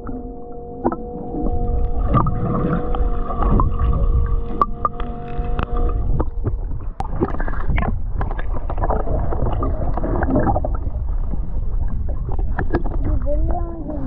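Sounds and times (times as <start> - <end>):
low underwater rumble: 0.0 - 14.0
water gurgling: 0.0 - 14.0.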